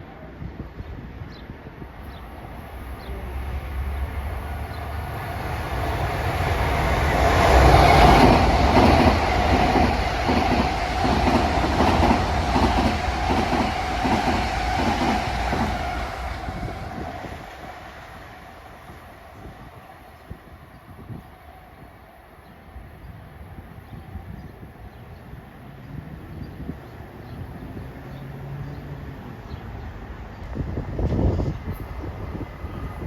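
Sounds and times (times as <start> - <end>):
train rumbling past: 0.6 - 33.0.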